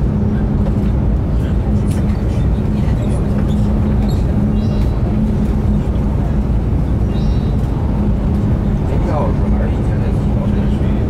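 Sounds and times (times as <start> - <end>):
low hum: 0.0 - 11.0
train running rumble: 0.0 - 11.0.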